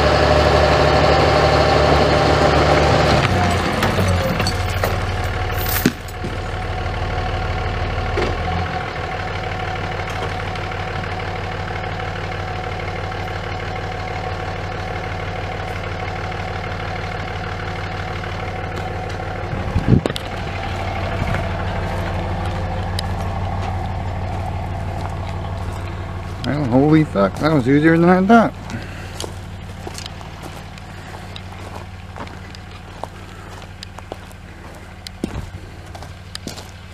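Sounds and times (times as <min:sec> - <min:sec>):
pickup truck engine running: 0:00.0 - 0:36.9.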